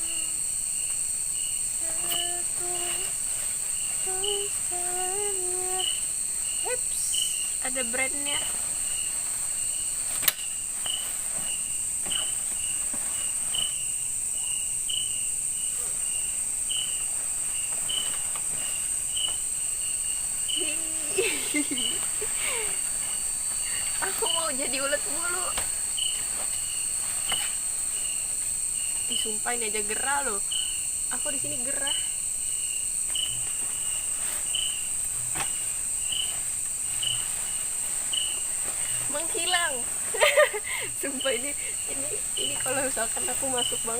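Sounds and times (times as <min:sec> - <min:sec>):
cricket trill: 0:00.0 - 0:43.9
insect chirp: 0:00.0 - 0:43.9
insects shrill drone: 0:00.0 - 0:43.9.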